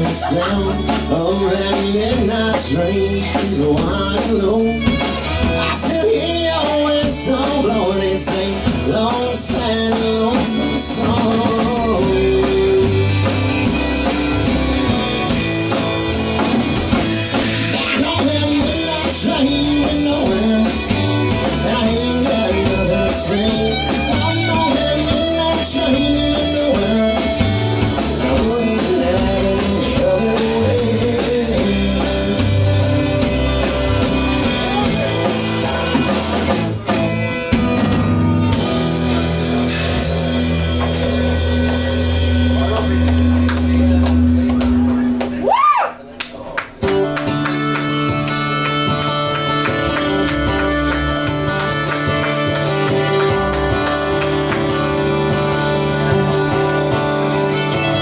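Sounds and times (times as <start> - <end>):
fiddle melody: 0.0 - 45.1, 46.9 - 58.0
strummed acoustic guitar: 0.0 - 45.4, 46.8 - 58.0
bass guitar: 0.0 - 58.0
drum kit: 0.0 - 58.0.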